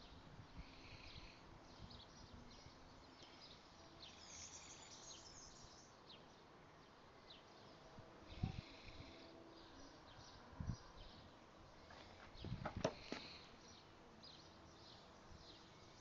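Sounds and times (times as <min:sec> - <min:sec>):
distant birdsong: 0:00.0 - 0:16.0.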